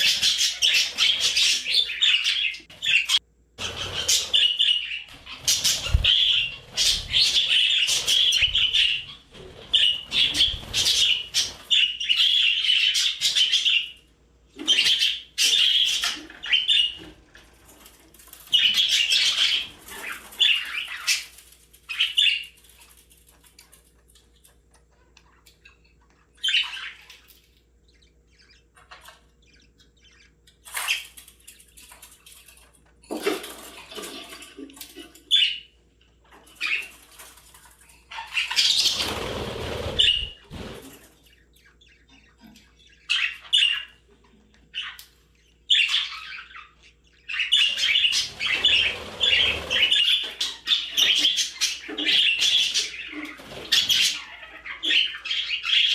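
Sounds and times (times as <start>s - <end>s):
budgerigars chirping and squawking: 0.0s - 55.9s.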